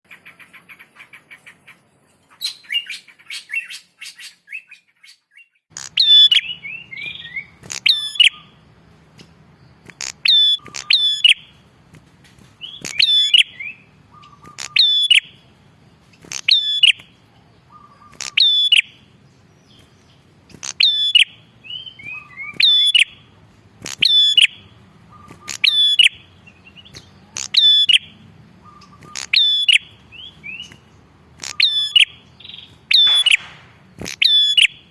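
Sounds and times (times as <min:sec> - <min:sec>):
bird singing chattering trill: 0:00.1 - 0:11.7, 0:12.6 - 0:34.9.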